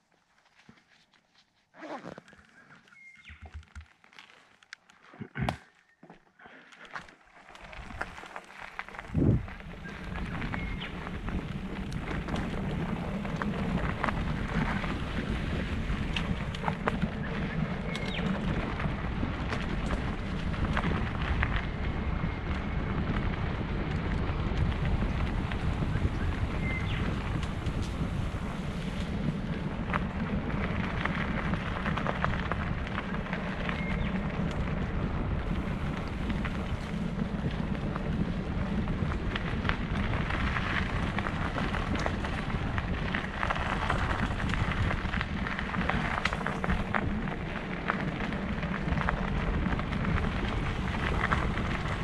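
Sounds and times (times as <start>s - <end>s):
bike tyres crunching over gravel: 0.0s - 52.0s
wind rumbling on microphone: 7.5s - 52.0s.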